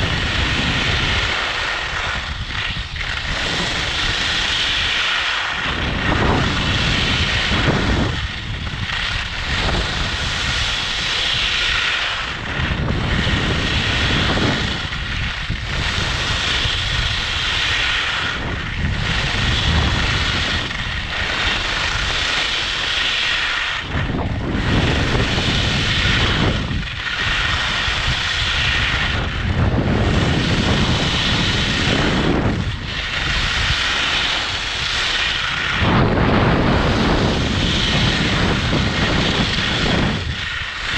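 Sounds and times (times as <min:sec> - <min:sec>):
wind on microphone: 0:00.0 - 0:40.9
ski edges hissing on snow: 0:00.1 - 0:40.9.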